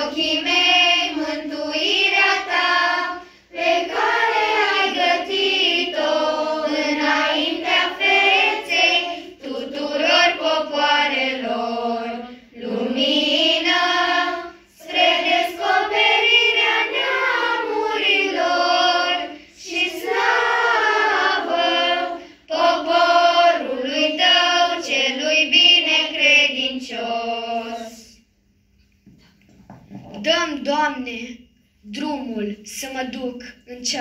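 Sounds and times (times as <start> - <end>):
children's choir chanting: 0.0 - 28.2.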